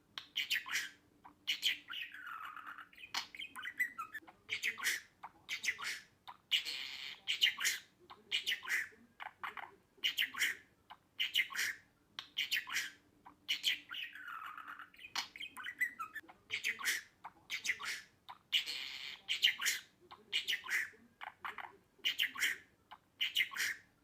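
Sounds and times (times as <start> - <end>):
budgerigars chattering: 0.3 - 23.9.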